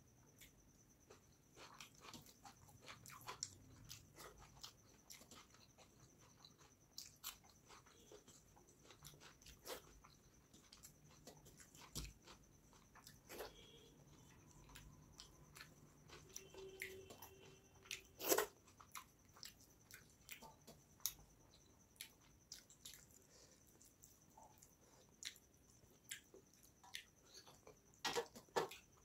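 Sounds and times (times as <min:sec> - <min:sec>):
wet chewing: 0:00.4 - 0:29.0.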